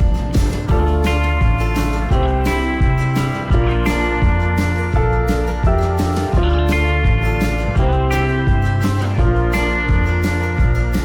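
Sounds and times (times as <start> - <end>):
country guitar instrumental: 0.0 - 11.0.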